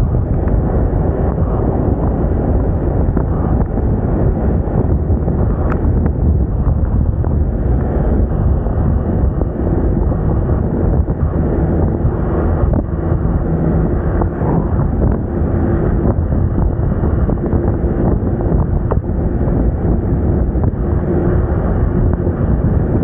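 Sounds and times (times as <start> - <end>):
scooter engine running: 0.0 - 23.0
wind buffeting microphone: 0.0 - 23.0.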